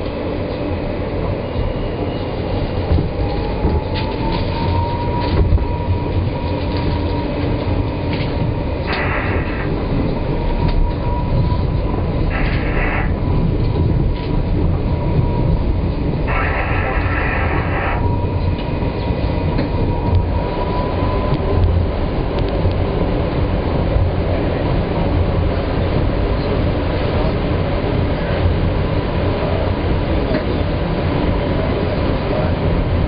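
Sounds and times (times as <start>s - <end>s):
subway train rumbling: 0.0s - 33.0s.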